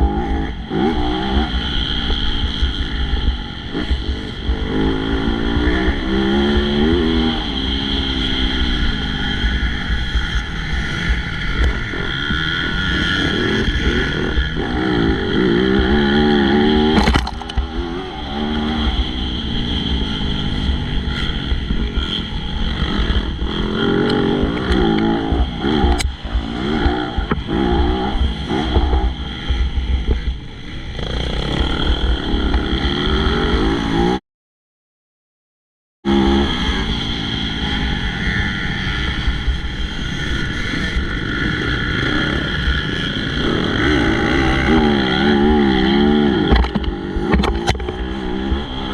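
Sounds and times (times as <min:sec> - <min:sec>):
motocross bike engine revving: 0:00.0 - 0:34.2, 0:36.1 - 0:48.9.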